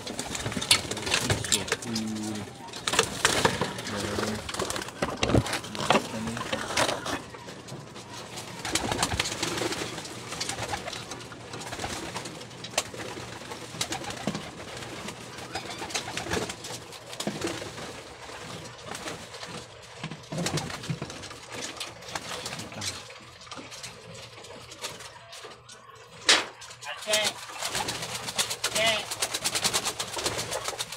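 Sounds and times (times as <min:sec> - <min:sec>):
birds clicking and knocking: 0:00.0 - 0:30.9
pigeons cooing: 0:00.0 - 0:30.9
wings flapping: 0:00.0 - 0:30.9.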